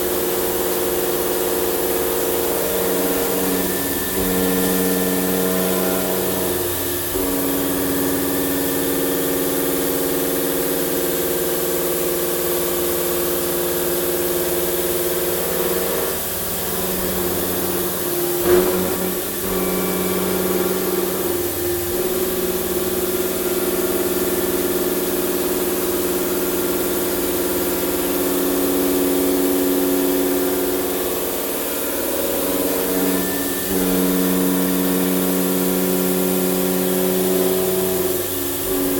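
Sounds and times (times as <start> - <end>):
milling machine humming: 0.0 - 38.9.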